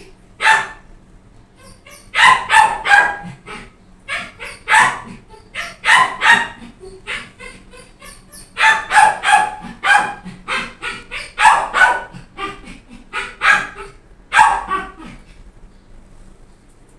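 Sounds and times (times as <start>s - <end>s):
dog yapping: 0.4s - 0.8s, 1.6s - 15.4s.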